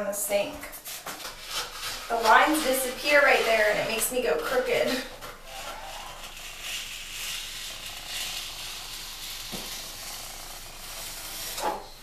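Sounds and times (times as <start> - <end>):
scissors cutting vinyl paper: 0.9 - 12.0.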